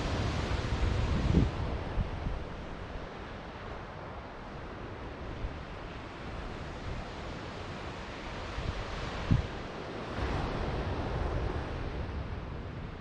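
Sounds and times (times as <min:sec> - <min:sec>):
ocean surf washing on beach: 0:00.0 - 0:13.0
wind noise on microphone: 0:00.0 - 0:13.0.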